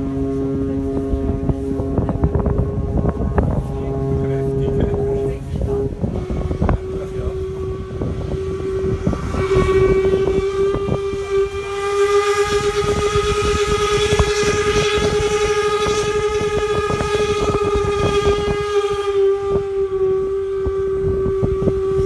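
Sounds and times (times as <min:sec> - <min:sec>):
steam whistle blast: 0:00.0 - 0:22.0.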